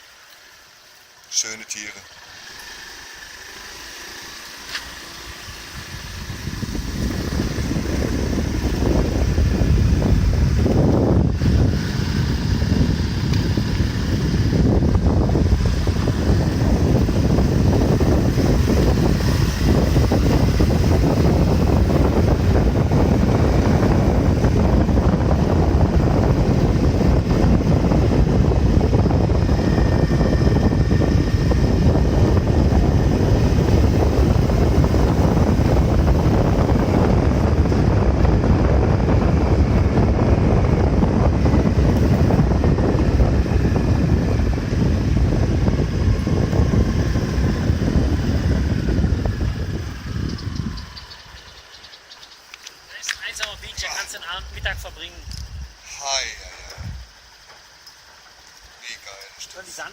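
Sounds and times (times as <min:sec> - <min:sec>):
motorbike riding noise: 0:00.0 - 0:59.9
wind buffeting microphone: 0:04.8 - 0:58.1.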